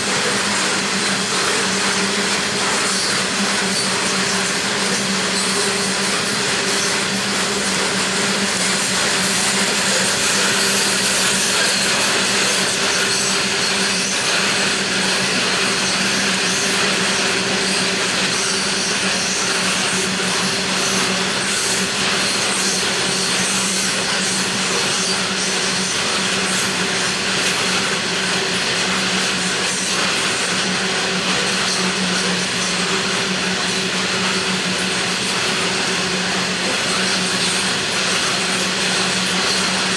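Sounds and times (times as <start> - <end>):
wheels on rails: 0.0 - 39.9.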